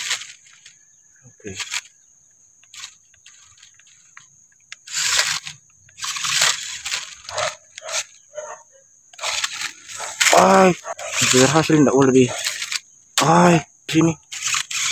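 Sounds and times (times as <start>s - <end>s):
toy truck crunching and clattering: 0.0s - 2.0s, 2.6s - 14.9s.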